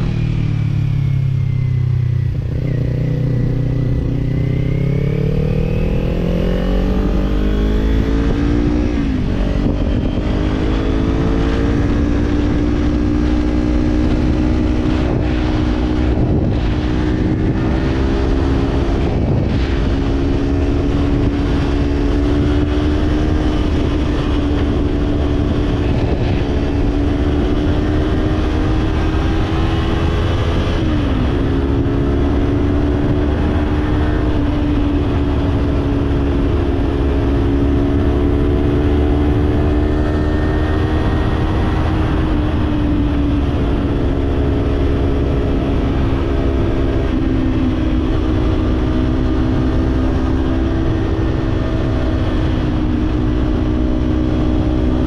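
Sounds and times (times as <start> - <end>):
motorcycle engine cruising: 0.0 - 55.0
road rumble: 0.0 - 55.0
wind: 0.0 - 55.0.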